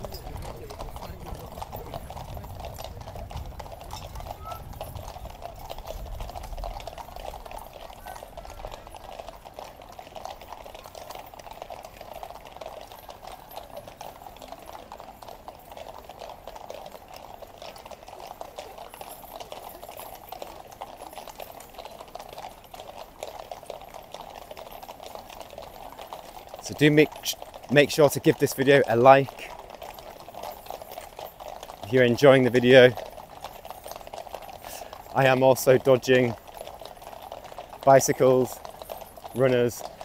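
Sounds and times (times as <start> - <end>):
horse hoofbeats on road: 0.0 - 40.0.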